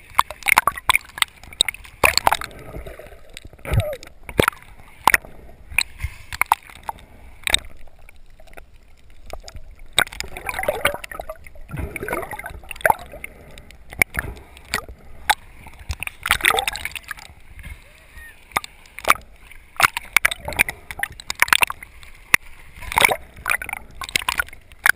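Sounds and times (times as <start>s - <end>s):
sharp clicks and pops: 0.0s - 17.4s, 18.5s - 24.9s
underwater gurgling and sloshing: 0.0s - 24.9s.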